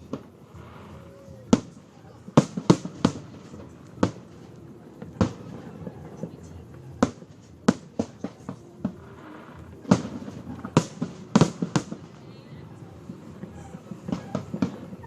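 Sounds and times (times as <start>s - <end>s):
fireworks shells bursting: 0.0s - 15.0s.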